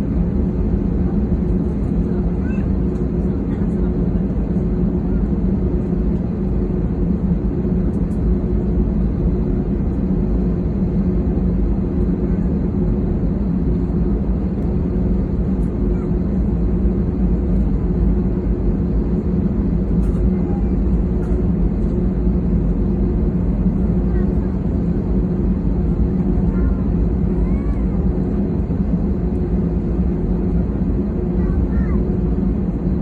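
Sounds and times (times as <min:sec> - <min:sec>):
airliner engines droning: 0:00.0 - 0:33.0.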